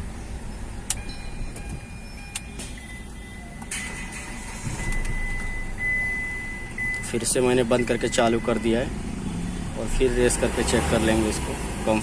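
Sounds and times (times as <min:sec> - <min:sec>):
car engine starting: 0:00.0 - 0:12.0.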